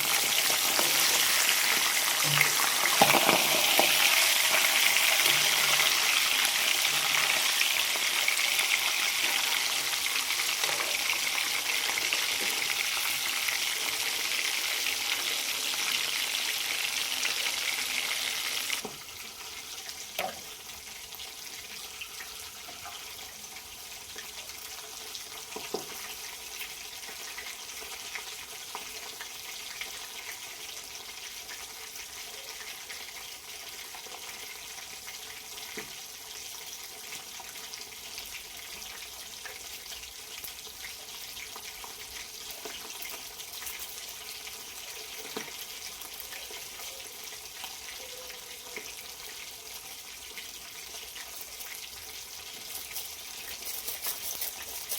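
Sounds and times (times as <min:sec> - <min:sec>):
food sizzling in hot oil: 0:00.0 - 0:54.9.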